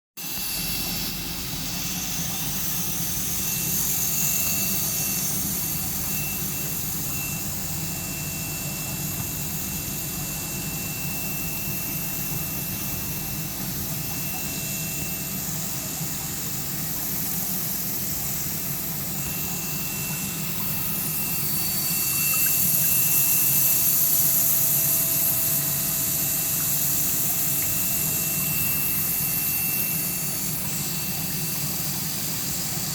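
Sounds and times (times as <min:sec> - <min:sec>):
faint steady whine: 0:00.2 - 0:32.9.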